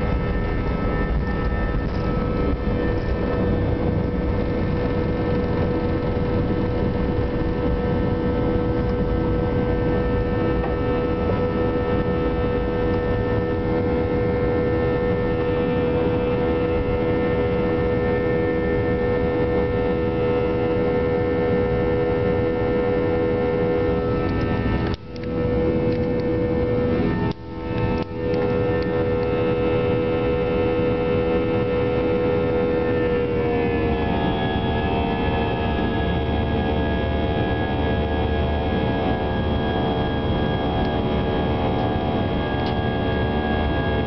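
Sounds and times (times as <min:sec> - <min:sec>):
jet engine cabin roar: 0:00.0 - 0:44.0.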